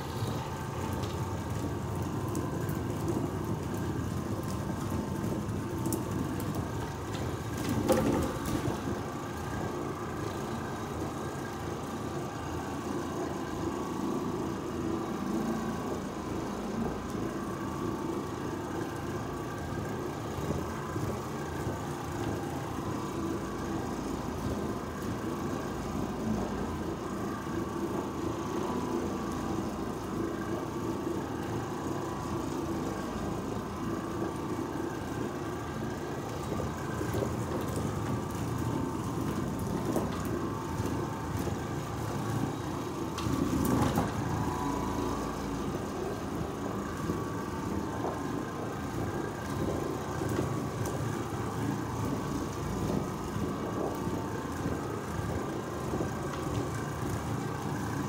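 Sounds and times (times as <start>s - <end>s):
floor machine motor humming: 0.0s - 58.0s.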